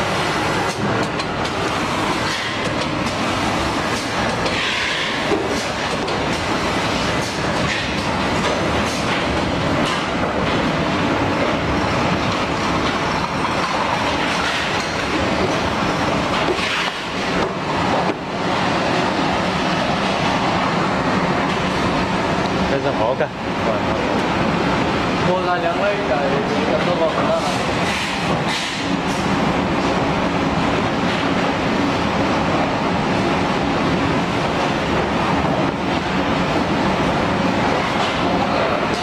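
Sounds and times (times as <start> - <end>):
conveyor rattle and clicks: 0.0 - 24.4, 25.0 - 39.0.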